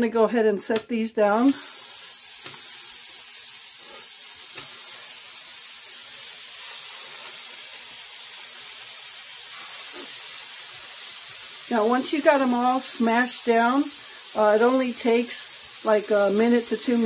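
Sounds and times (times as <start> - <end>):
meat sizzling on a griddle: 1.3 - 17.0.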